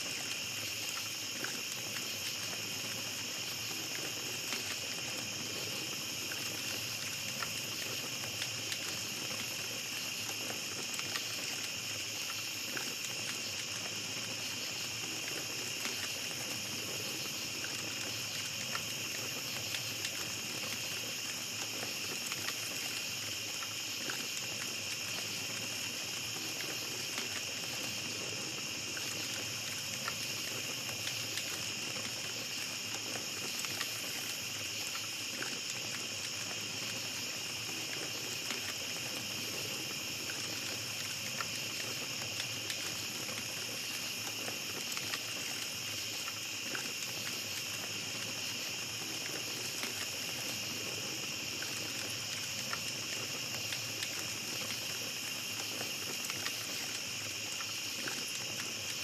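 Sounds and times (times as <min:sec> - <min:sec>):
campfire crackling: 0:00.0 - 0:59.0
fire popping: 0:00.0 - 0:59.0
night insects droning: 0:00.0 - 0:59.0.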